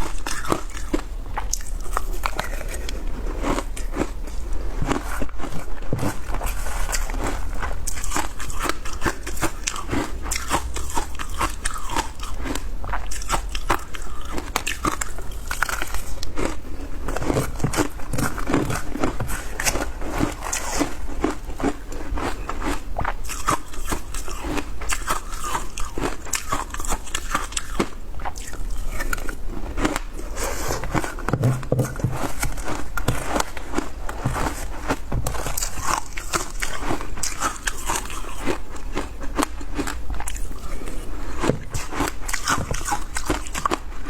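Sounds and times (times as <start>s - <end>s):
ice being chewed crunching: 0.0s - 44.0s.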